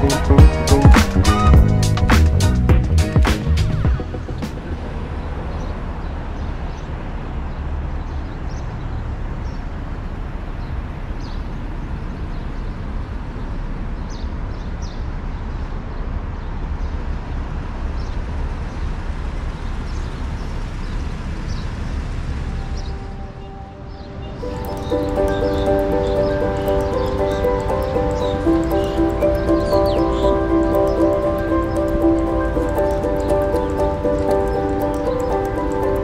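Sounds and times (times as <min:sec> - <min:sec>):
road traffic rumble: 0:00.0 - 0:36.0
wind: 0:00.0 - 0:36.0.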